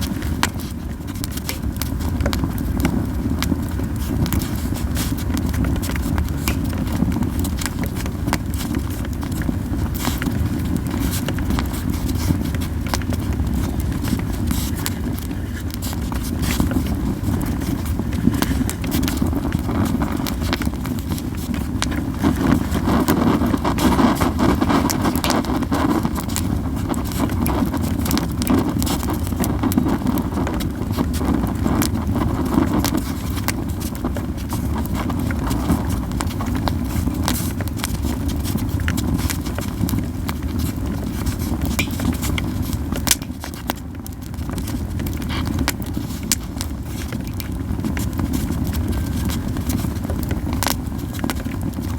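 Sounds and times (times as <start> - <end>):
campfire crackling and popping: 0.0 - 51.9
low rush of flames: 0.0 - 51.9.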